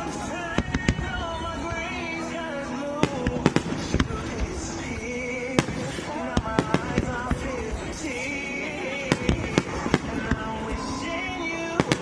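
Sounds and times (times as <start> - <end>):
fireworks bursting in bangs: 0.0 - 12.0
music over loudspeakers: 0.0 - 12.0.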